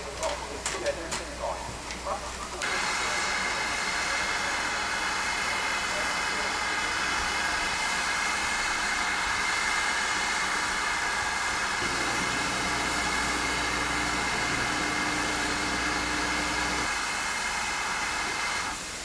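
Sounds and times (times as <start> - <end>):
steam hissing from locomotive: 0.0 - 19.0.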